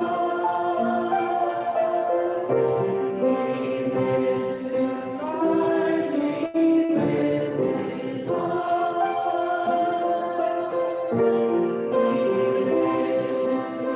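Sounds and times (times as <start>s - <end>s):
choir singing a slow hymn: 0.0s - 13.9s.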